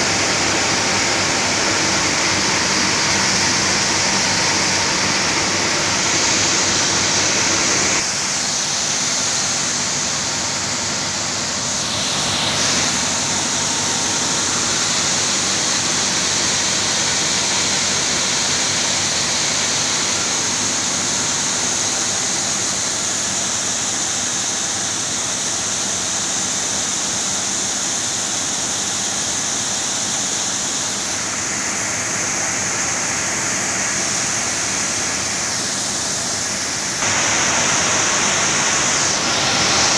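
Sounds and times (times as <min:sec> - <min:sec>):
mill machinery hissing and humming: 0:00.0 - 0:39.9.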